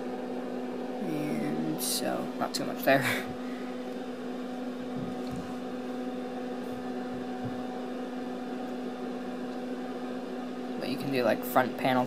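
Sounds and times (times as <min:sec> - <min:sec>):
oscilloscope hum: 0:00.0 - 0:12.0.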